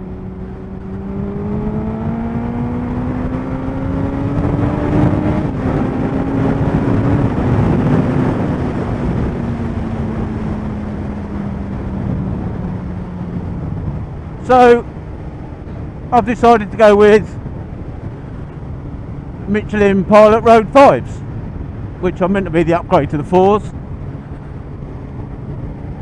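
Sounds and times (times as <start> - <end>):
motorcycle engine at speed: 0.0 - 26.0
wind rush: 0.0 - 26.0.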